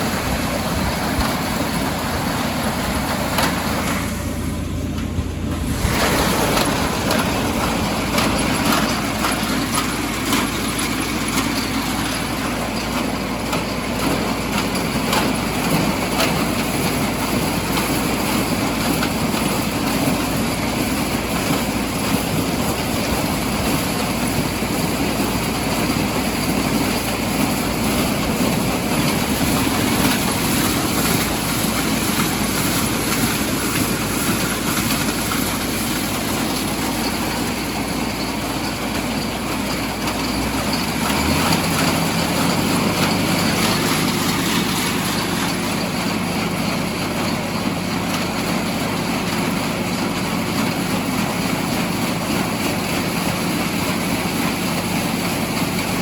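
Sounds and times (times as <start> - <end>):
corn picker clattering: 0.0 - 56.0
tractor engine running: 0.0 - 56.0.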